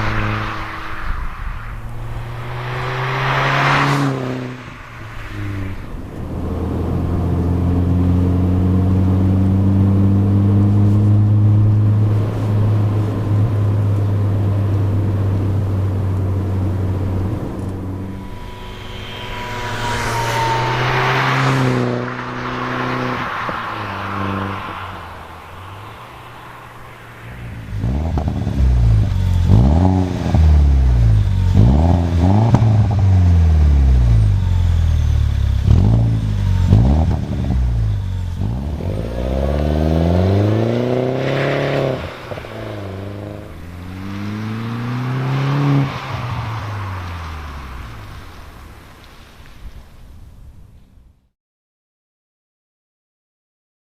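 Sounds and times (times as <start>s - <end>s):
car engine revving: 0.0s - 48.6s.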